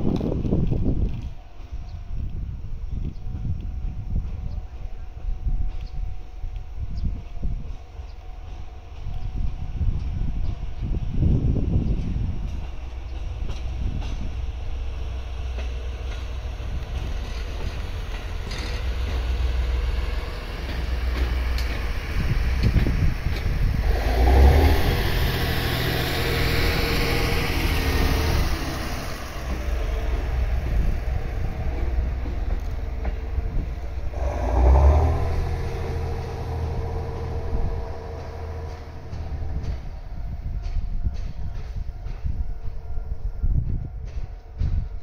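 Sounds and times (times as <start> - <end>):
railcar engine running: 0.0 - 45.0
train wheels rolling on rails: 0.0 - 45.0.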